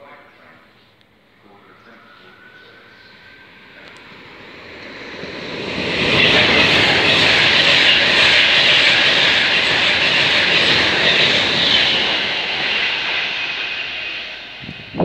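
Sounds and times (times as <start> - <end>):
train passing at speed: 0.4 - 15.0.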